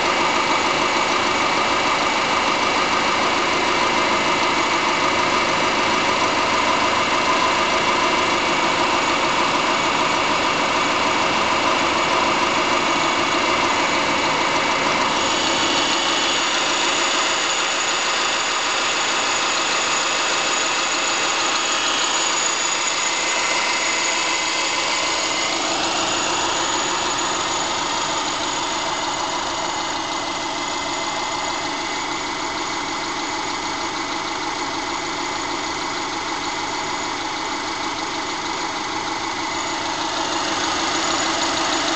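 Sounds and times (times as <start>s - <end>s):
car engine idling with knock: 0.0s - 41.9s.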